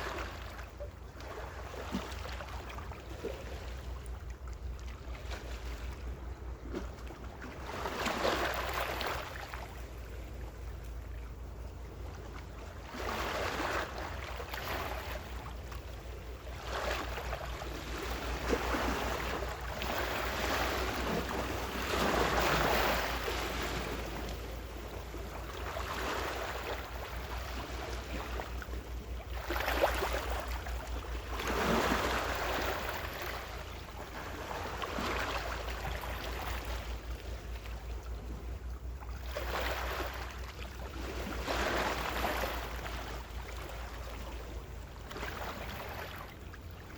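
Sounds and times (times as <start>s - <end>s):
steady low rumble: 2.5s - 46.9s
ocean waves washing in: 7.3s - 46.9s.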